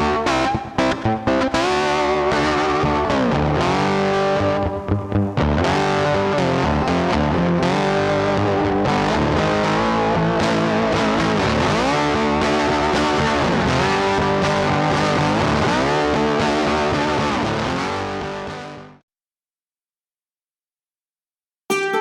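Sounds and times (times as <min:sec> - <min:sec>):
guitar background music: 0:00.0 - 0:19.0, 0:21.7 - 0:22.0.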